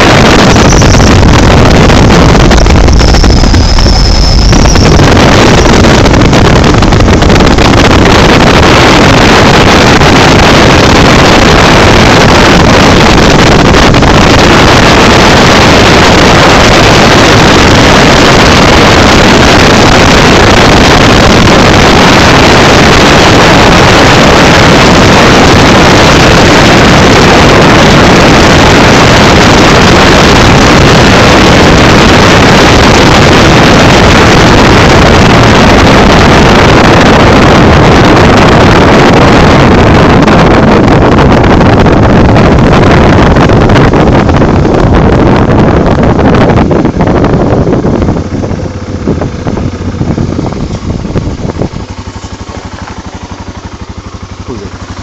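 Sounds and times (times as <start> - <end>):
motorcycle engine and road noise: 0.0 - 55.0
wind buffeting microphone: 0.0 - 55.0.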